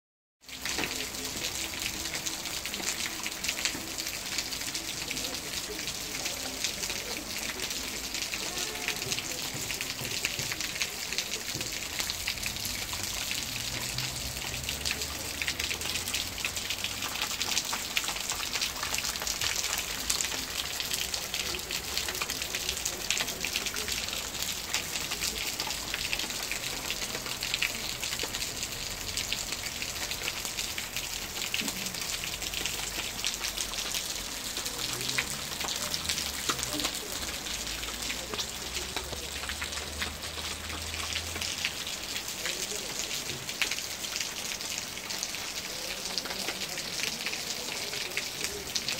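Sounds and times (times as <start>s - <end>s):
rain on stone paving: 0.4s - 48.9s.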